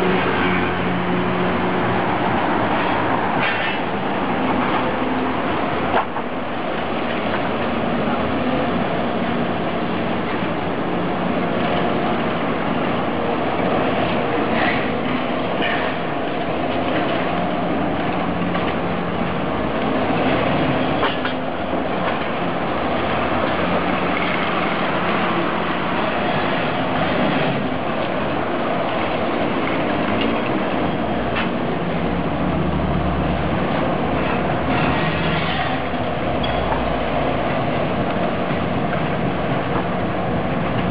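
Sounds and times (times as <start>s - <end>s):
buses and cars running: 0.0s - 40.9s.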